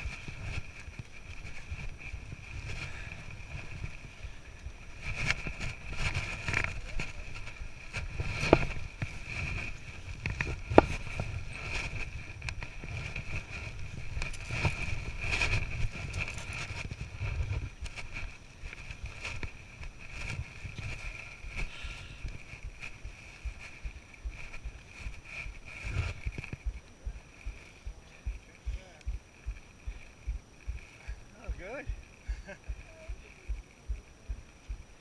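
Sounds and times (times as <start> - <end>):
steady high-pitched hum: 0.0 - 35.0
wind rumbling on microphone: 0.0 - 35.0.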